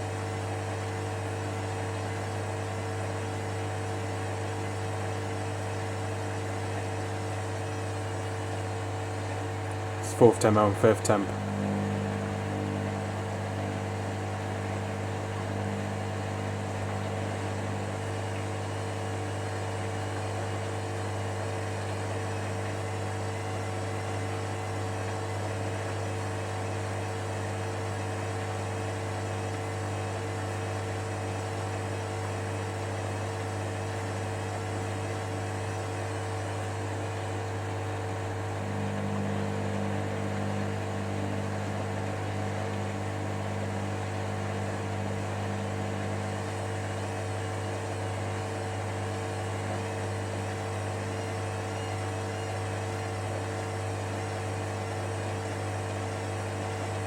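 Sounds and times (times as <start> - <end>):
washer-dryer humming: 0.0 - 57.0.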